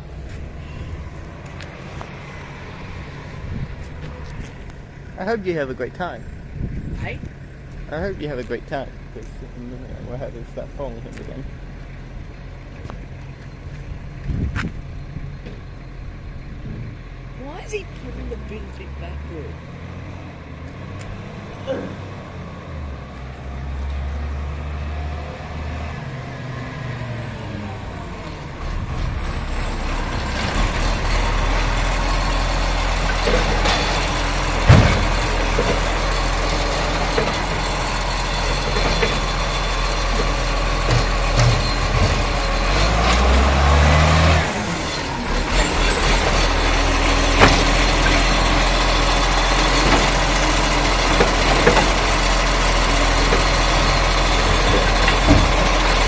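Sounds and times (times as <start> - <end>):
garbage truck diesel engine: 0.0 - 56.0.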